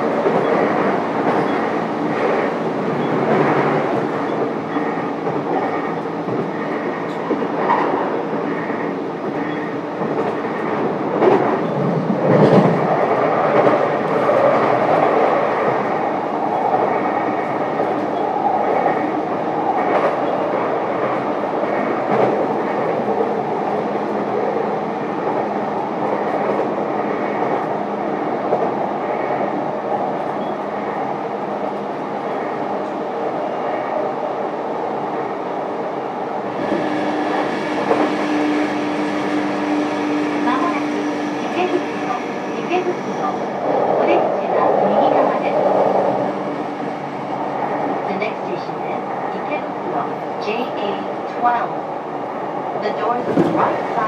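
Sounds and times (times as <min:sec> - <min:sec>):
train clatter: 0:00.0 - 0:33.0, 0:36.6 - 0:51.7, 0:52.7 - 0:54.0.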